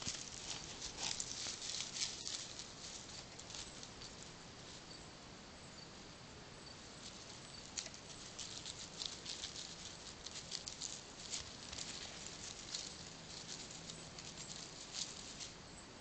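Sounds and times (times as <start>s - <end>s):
dry leaves rustling and crackling: 0.0s - 4.9s, 6.8s - 15.6s.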